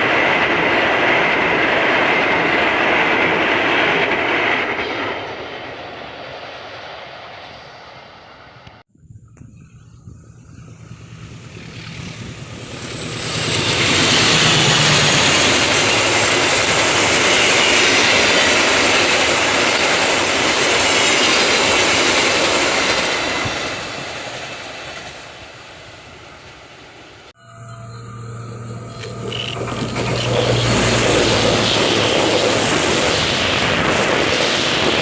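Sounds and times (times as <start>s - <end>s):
train passing at speed: 0.0s - 8.9s, 10.4s - 35.0s.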